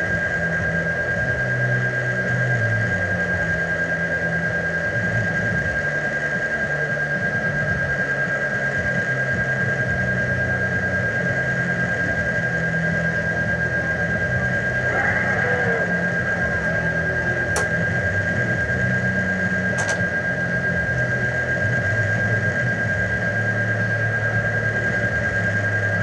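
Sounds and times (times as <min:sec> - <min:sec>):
droning hum: 0:00.0 - 0:26.0
high-pitched whine: 0:00.0 - 0:26.0.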